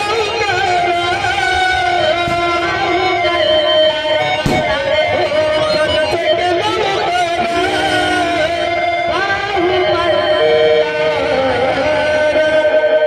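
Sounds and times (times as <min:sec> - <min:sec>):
held instrumental notes: 0:00.0 - 0:13.0
person singing ornamented phrases: 0:00.0 - 0:13.0.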